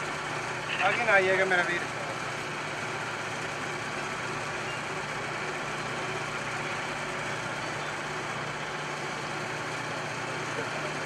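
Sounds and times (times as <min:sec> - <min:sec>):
helicopter turbine and rotor drone: 0:00.0 - 0:11.0.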